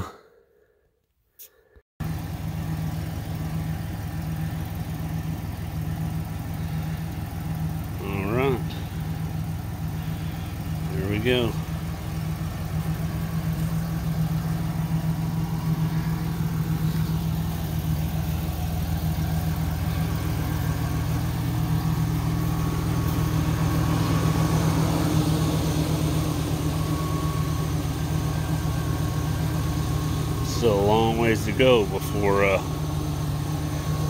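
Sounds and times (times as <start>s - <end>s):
pickup engine running: 2.0s - 34.0s.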